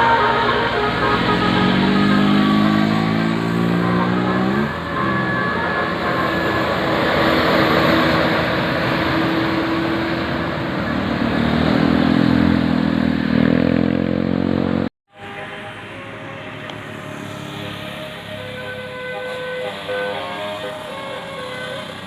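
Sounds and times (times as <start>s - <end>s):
bus engine passing: 0.0s - 22.0s
heavy road noise: 0.0s - 22.0s.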